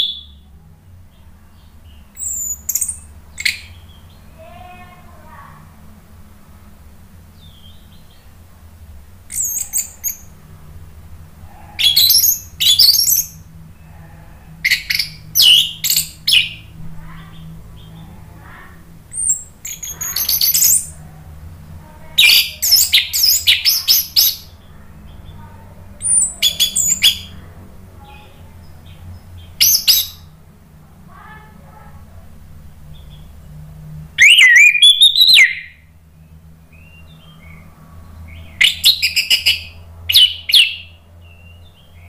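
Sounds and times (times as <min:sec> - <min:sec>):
faint low hum: 0:00.0 - 0:42.0.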